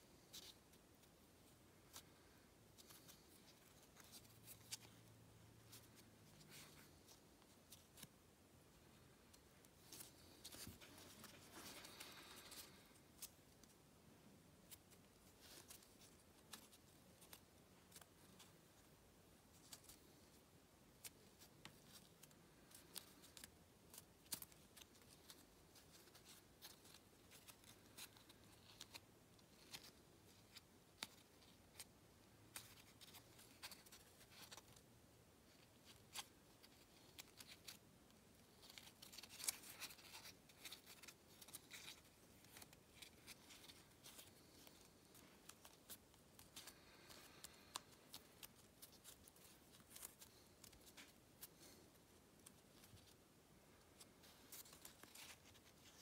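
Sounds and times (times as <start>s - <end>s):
paper crinkling as it is folded: 0.2s - 13.8s, 14.6s - 56.0s.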